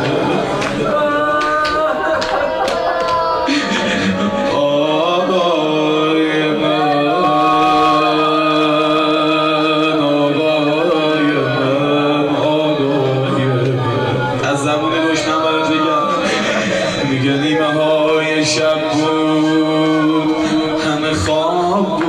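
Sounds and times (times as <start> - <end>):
man chanting a lament: 3.3 - 22.0.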